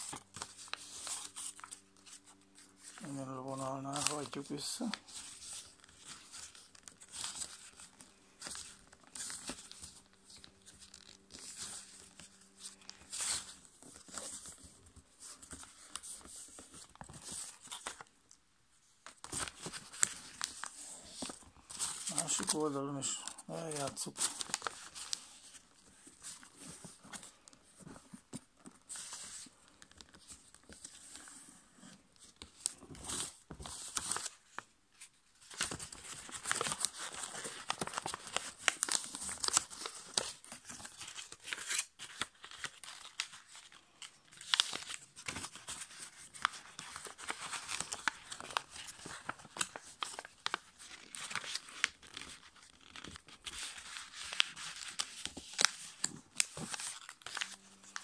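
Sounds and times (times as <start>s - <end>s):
paper crinkling and rustling: 0.0s - 58.0s.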